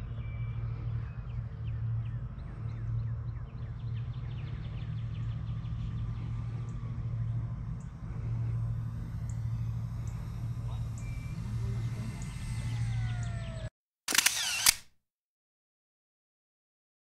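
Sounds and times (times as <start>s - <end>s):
birds chirping: 0.0s - 13.7s
model plane humming: 0.0s - 14.8s.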